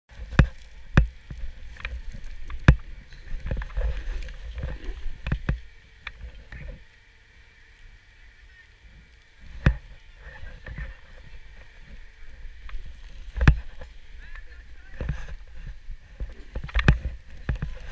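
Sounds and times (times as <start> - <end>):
low wind rumble: 0.1 - 17.9.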